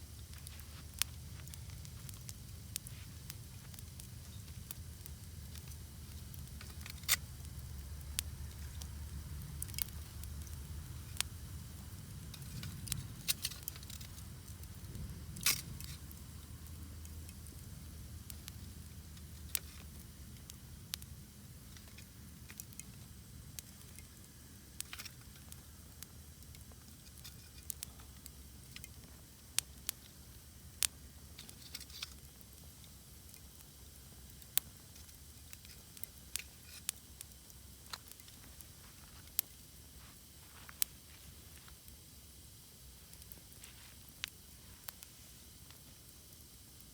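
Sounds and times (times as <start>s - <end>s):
campfire crackling and popping: 0.0s - 46.9s
fire hissing: 0.0s - 46.9s.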